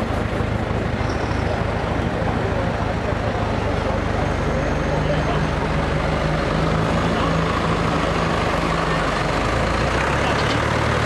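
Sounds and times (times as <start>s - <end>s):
diesel engines idling: 0.0s - 11.0s.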